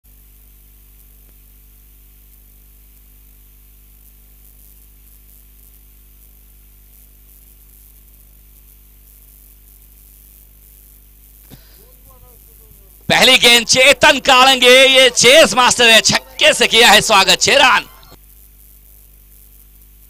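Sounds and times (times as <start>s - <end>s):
electrical hum and hiss: 0.1s - 20.0s.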